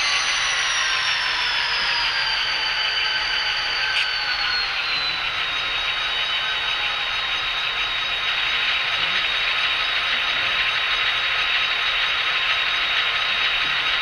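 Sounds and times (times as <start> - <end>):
hissing drone with high whine: 0.0 - 14.0.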